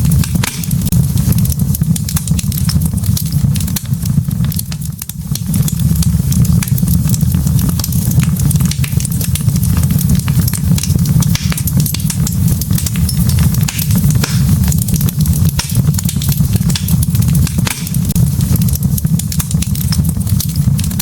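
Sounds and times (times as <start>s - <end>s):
fire low rumble: 0.0s - 21.0s
logs crackling and popping: 0.0s - 21.0s.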